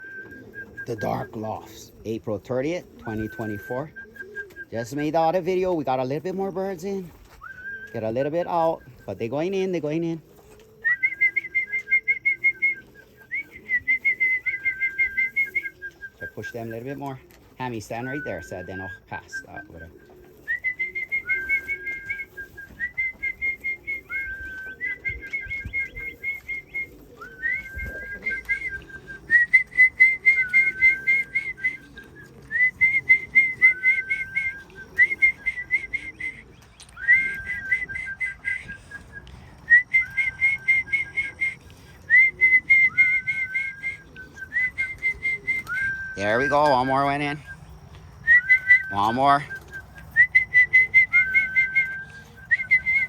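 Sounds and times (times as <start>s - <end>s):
trilled whistle calls: 0.0s - 10.0s, 10.7s - 53.0s.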